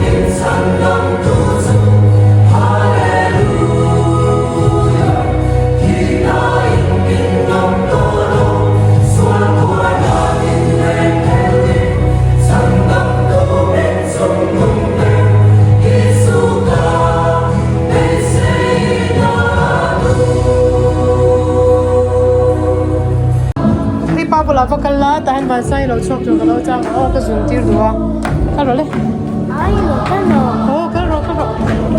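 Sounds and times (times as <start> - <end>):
choir singing gospel: 0.0 - 31.9
instrumental accompaniment: 0.0 - 31.9.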